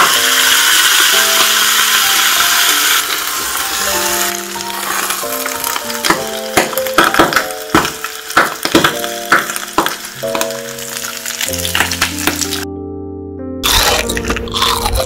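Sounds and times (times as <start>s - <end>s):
meat sizzling and popping: 0.0s - 12.7s, 13.6s - 15.0s
background music: 0.0s - 15.0s.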